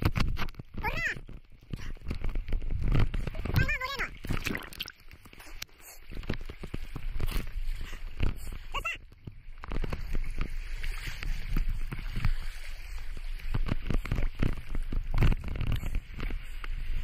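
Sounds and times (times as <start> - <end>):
sea water splashing over rocks: 0.0 - 17.0.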